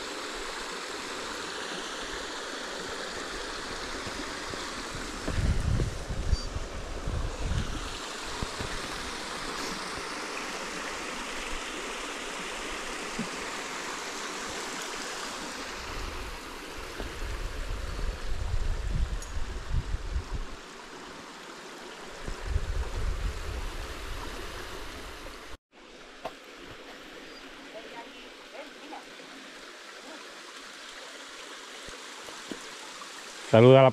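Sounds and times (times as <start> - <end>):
stream water over rocks: 0.0 - 33.9.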